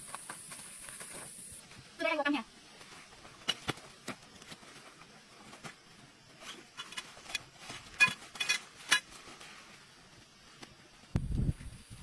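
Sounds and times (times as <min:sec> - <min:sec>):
tent fabric rustling: 0:00.4 - 0:11.2.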